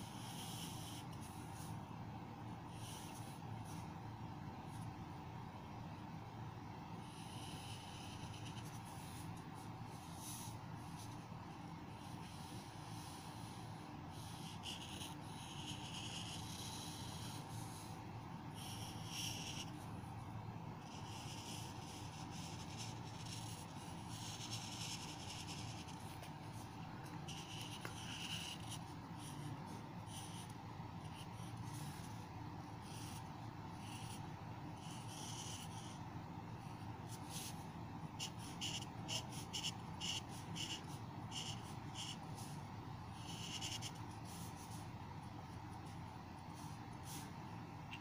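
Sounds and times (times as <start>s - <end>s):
marker scratching on paper: 0.0s - 1.8s, 2.6s - 4.0s, 7.0s - 11.3s, 11.9s - 20.0s, 20.8s - 36.0s, 36.6s - 48.0s
steady low hum: 0.0s - 48.0s.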